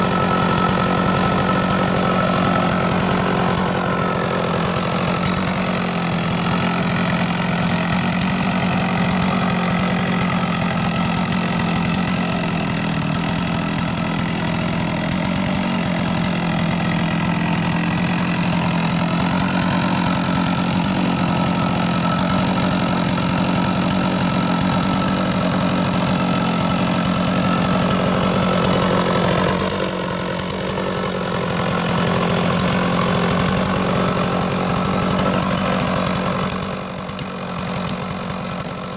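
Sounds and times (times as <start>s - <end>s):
chainsaw engine cutting log: 0.0s - 38.9s.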